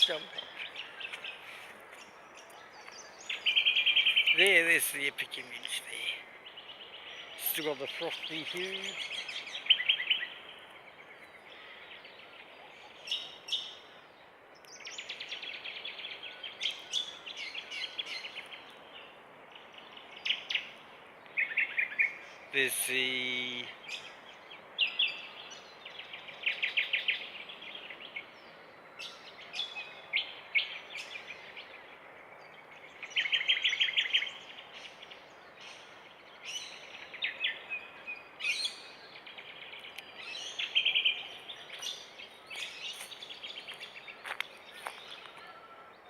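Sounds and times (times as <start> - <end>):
birds calling in rapid trills: 0.0 - 14.1, 14.8 - 46.0
steady background hiss: 0.0 - 46.0.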